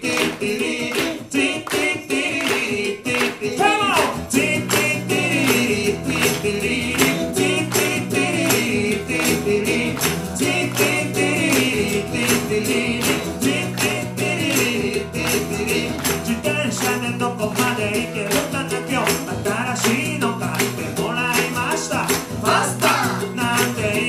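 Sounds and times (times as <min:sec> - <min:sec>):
acoustic band playing: 0:00.0 - 0:24.0
audience clapping along: 0:00.0 - 0:24.0.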